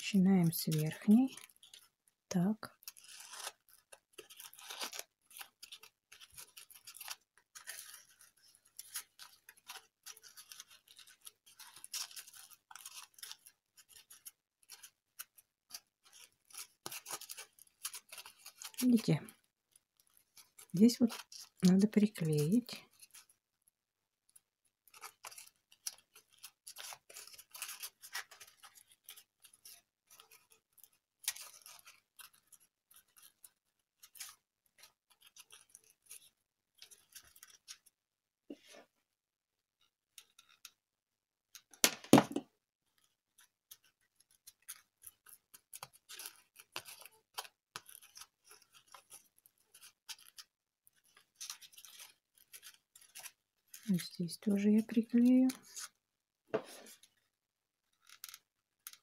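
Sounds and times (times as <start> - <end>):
foam strips rustling and scratching: 0.0 - 39.0, 39.8 - 40.8, 42.8 - 56.0, 56.6 - 59.0.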